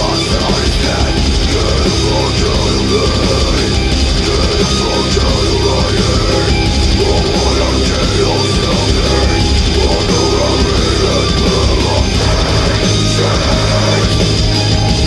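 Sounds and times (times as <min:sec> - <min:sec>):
heavy rock music: 0:00.0 - 0:15.0.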